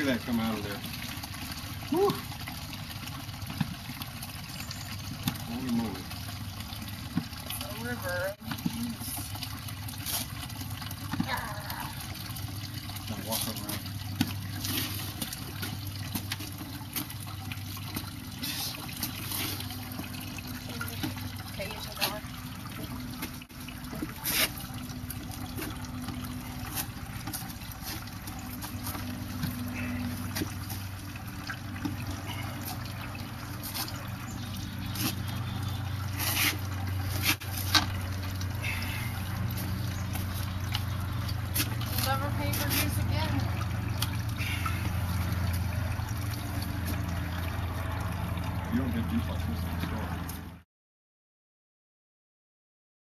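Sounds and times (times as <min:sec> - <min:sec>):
juice trickling from fruit press: 0:00.0 - 0:50.6.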